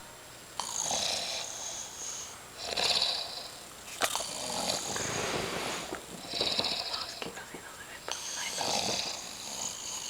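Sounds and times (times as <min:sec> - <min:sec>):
person snoring: 0:00.6 - 0:07.4, 0:08.1 - 0:10.0.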